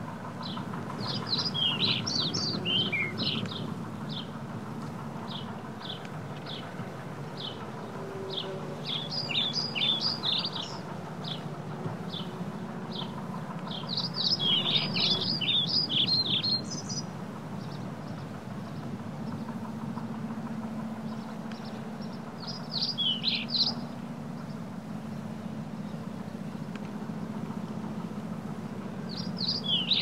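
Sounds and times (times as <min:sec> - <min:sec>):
low rumble of bike riding: 0:00.0 - 0:30.0
birds chirping: 0:00.3 - 0:30.0.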